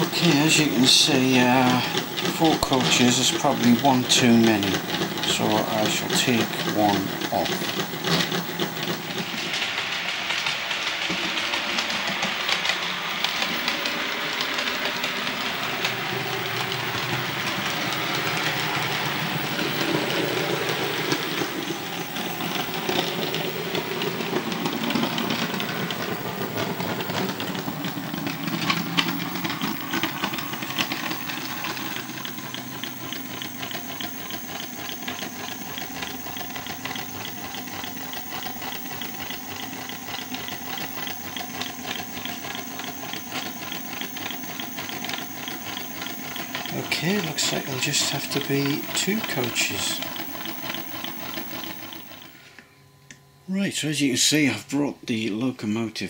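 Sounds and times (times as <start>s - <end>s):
model train running on track: 0.0s - 52.5s.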